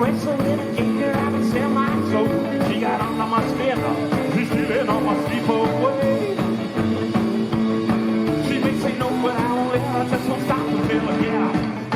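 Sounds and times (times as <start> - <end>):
guitar: 0.0 - 11.9
rock and roll band playing: 0.0 - 11.9
steady drum beat: 0.0 - 11.9.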